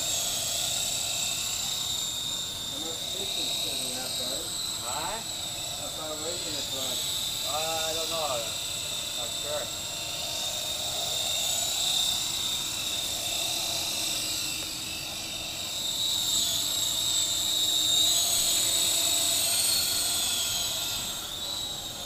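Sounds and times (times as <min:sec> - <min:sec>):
toy helicopter rotor whine: 0:00.0 - 0:22.0.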